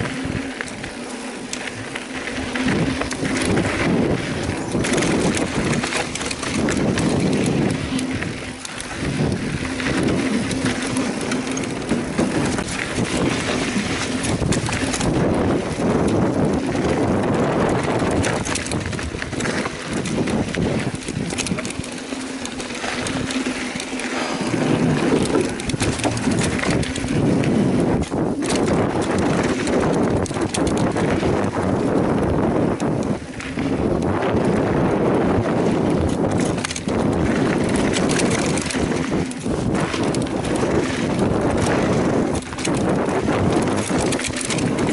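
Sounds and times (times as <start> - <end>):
bike rattling and knocking: 0.0 - 44.9
bike tyres on dirt and rock: 0.0 - 44.9
wind noise on microphone: 0.0 - 44.9.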